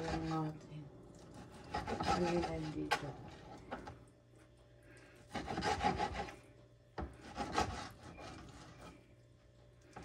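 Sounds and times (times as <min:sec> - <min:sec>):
scraping and rubbing of food handling: 0:01.2 - 0:09.3.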